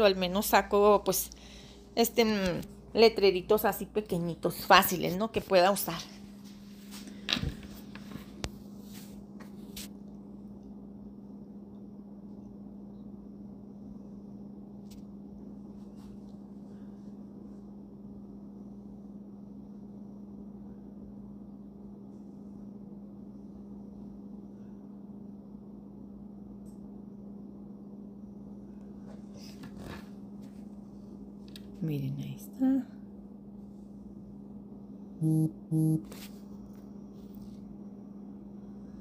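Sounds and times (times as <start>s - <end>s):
low room hum: 0.0s - 39.0s.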